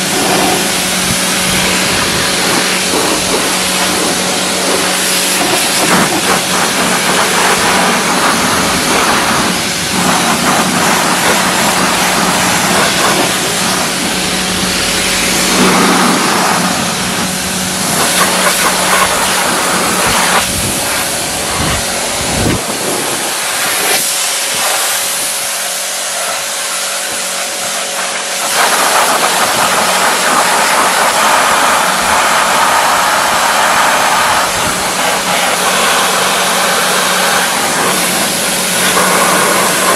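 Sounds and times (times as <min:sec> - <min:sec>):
pressure washer spray hissing: 0:00.0 - 0:39.9
washer pump hum: 0:00.0 - 0:39.9.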